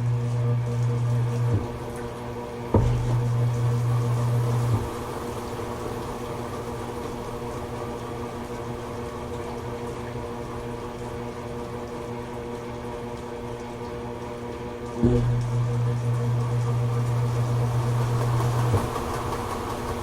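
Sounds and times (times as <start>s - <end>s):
washing machine hum: 0.0s - 20.0s
water sloshing in tub: 0.0s - 20.0s.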